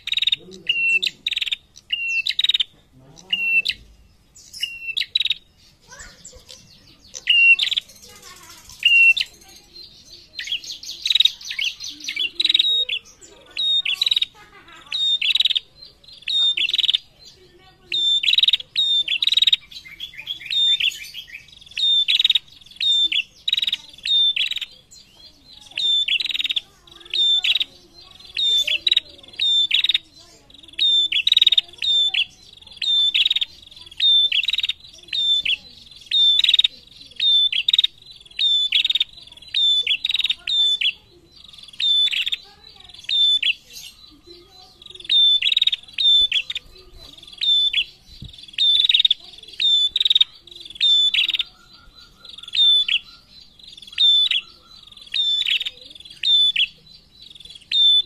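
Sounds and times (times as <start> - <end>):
bird chirping: 0.0 - 58.0
bird trills: 0.0 - 58.0.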